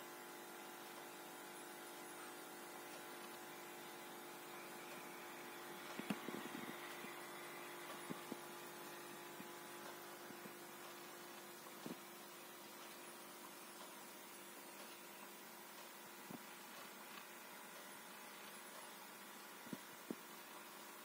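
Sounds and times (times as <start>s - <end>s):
aquarium equipment hum: 0.0s - 21.0s.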